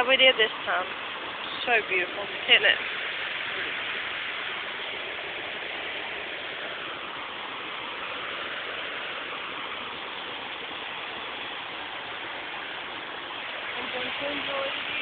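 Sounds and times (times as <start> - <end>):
water cascading over waterfalls: 0.0 - 15.0.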